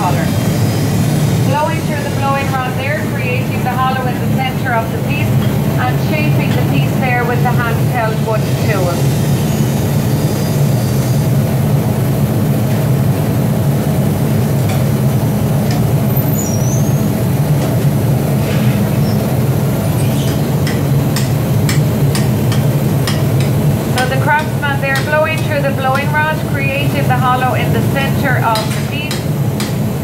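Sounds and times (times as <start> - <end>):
furnaces and machinery roar: 0.0 - 30.0.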